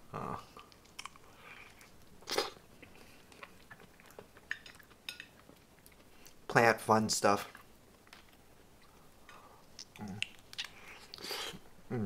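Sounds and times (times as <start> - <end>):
person biting and chewing fruit: 0.6 - 6.4, 7.5 - 11.6.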